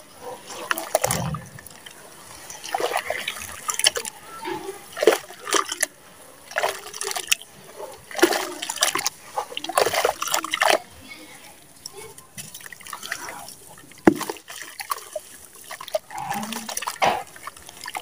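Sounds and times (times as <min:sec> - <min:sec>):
hands squelching wet mud: 0:00.0 - 0:11.0, 0:11.8 - 0:18.0.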